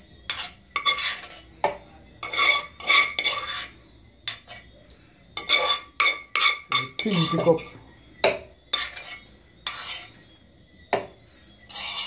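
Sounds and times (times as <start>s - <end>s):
metal spoon scraping pot: 0.1s - 4.8s, 5.4s - 10.2s, 11.6s - 12.0s.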